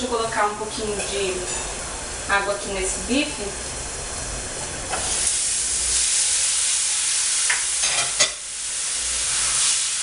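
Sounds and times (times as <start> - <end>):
water sizzling in hot pan: 1.1 - 10.0.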